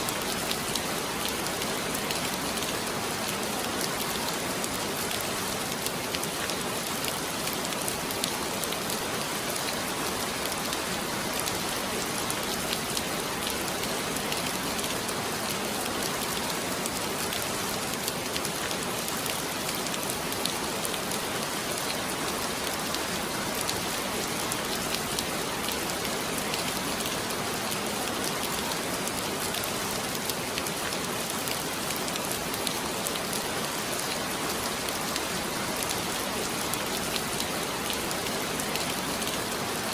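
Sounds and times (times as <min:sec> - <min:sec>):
heavy rain on hard surface: 0:00.0 - 0:39.9.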